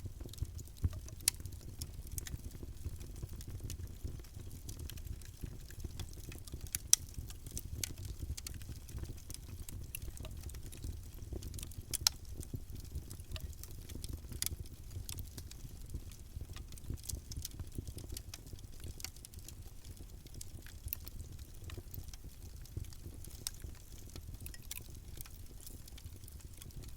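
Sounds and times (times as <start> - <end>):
campfire crackling: 0.0 - 26.9
wood popping in fire: 0.0 - 26.9.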